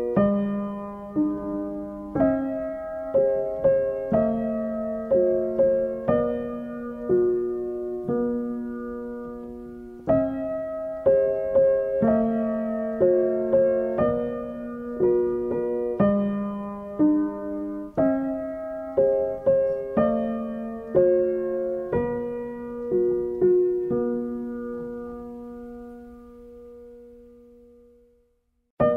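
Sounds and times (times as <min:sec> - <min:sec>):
gentle solo piano: 0:00.0 - 0:28.9.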